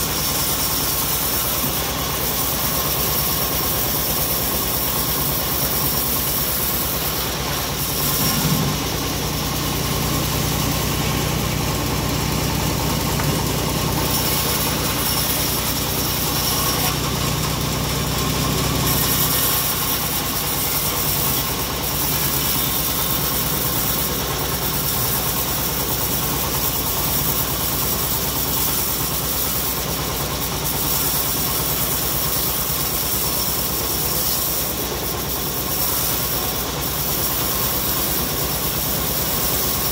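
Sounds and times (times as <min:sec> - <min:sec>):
engine-driven band saw cutting log: 0:00.0 - 0:39.9.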